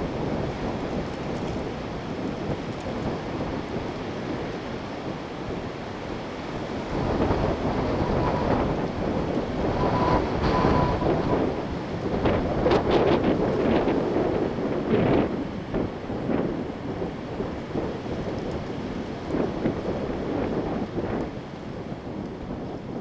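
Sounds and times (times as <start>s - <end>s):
wind buffeting microphone: 0.0s - 23.0s
wind gusting through trees: 0.0s - 23.0s.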